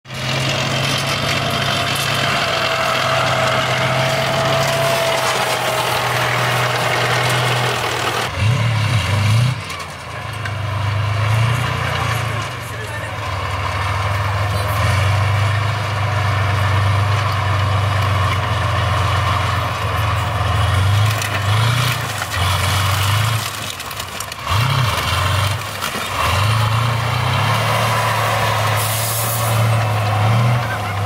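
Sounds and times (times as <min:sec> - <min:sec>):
tank diesel engine running hard: 0:00.1 - 0:31.0
tank tracks rattling: 0:00.1 - 0:31.0.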